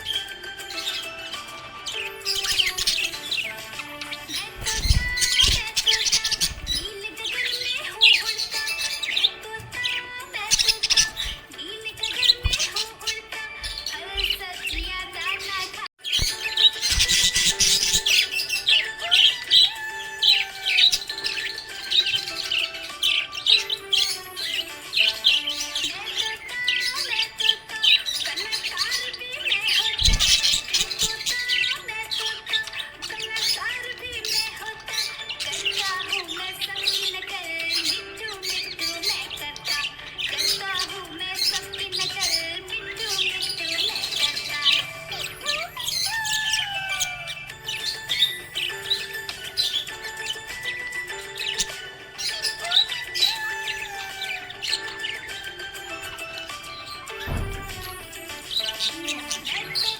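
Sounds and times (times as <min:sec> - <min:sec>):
background music: 0:00.0 - 0:59.9
budgerigars chirping: 0:00.0 - 0:59.9.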